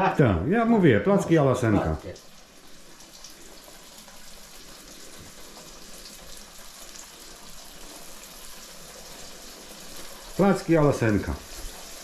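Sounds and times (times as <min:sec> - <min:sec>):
dough frying in a pot: 0:00.0 - 0:12.0.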